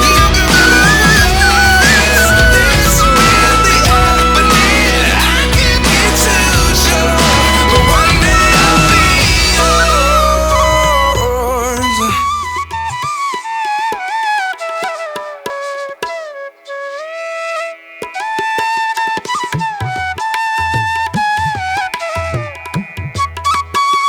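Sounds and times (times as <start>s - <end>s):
tabla drums: 0.0s - 16.6s, 17.9s - 24.0s
flute melody: 0.0s - 24.0s.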